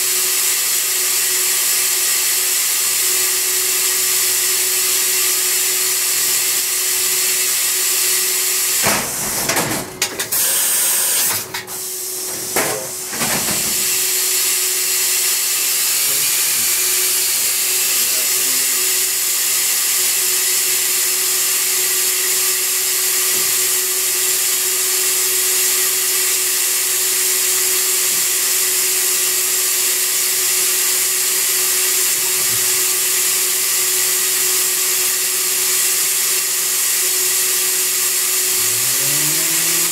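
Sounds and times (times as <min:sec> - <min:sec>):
machine hissing and humming: 0:00.0 - 0:39.9.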